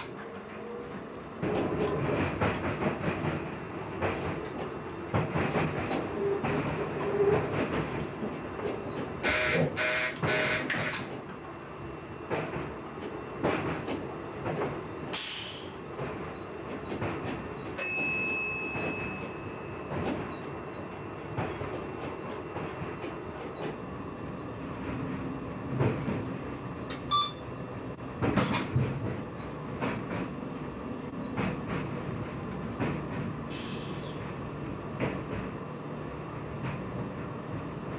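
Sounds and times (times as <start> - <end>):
train rumbling along track: 0.0 - 37.9.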